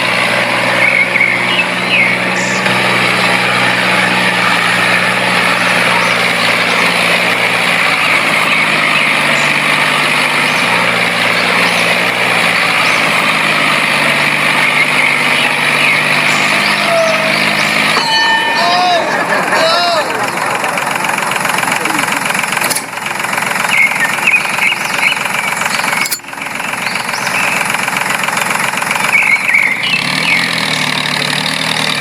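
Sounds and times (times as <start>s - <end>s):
mini tractor engine droning: 0.0s - 32.0s.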